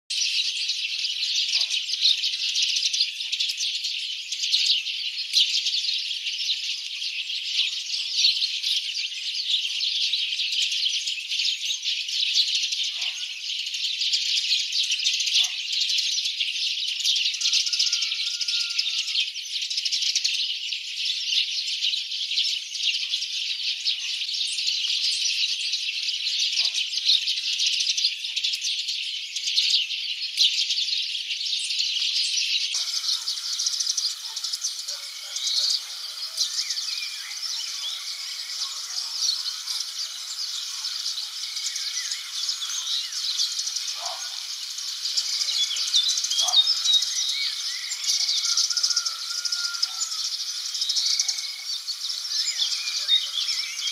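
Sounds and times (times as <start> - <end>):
songbirds chirping in chorus: 0.1 - 53.9.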